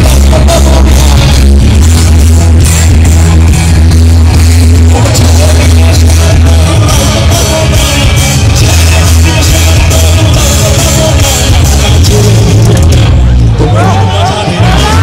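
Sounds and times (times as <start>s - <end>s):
live rock band over speakers: 0.0s - 15.0s.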